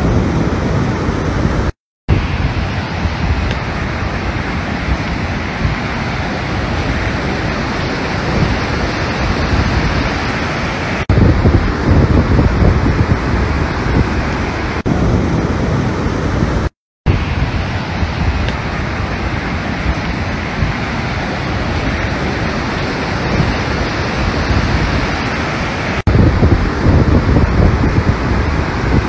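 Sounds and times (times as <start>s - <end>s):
rushing surf: 0.0s - 29.0s
wind buffeting microphone: 0.0s - 29.0s.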